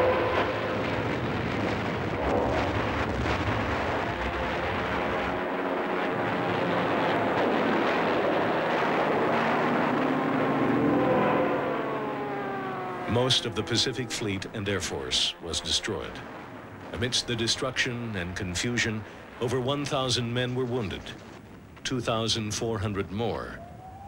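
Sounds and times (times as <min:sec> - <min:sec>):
heavy low rumble: 0:00.0 - 0:24.0
warplane engines droning: 0:00.0 - 0:24.0.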